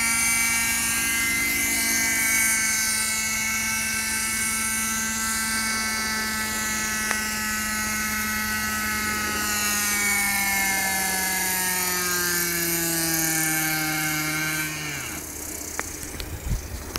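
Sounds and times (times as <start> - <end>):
model helicopter engine whining: 0.0 - 16.9.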